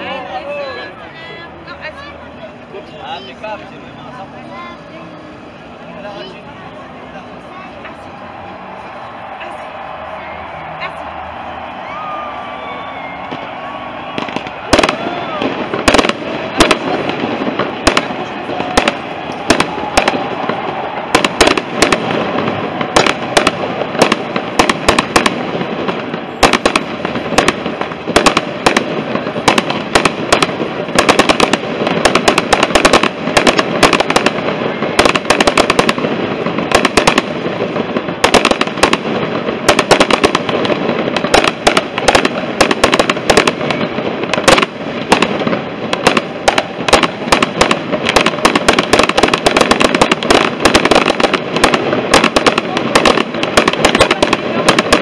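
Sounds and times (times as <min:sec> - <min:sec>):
firework crackling: 0:00.0 - 0:55.0
loud firecracker bangs: 0:07.2 - 0:55.0.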